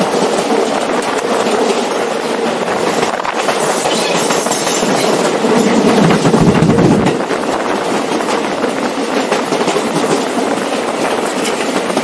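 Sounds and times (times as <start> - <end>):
wheel-on-rail noise: 0.0 - 12.0
wheels clacking over rail joints: 0.0 - 12.0.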